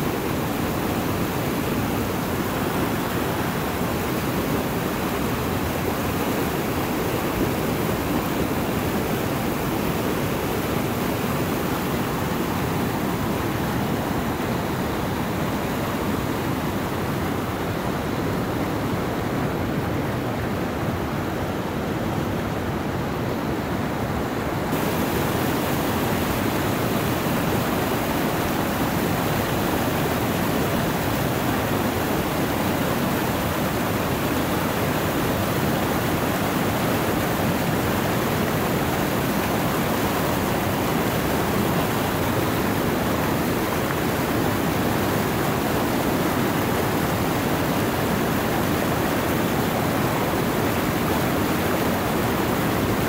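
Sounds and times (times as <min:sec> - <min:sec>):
river rapids rushing over rocks: 0:00.0 - 0:53.0.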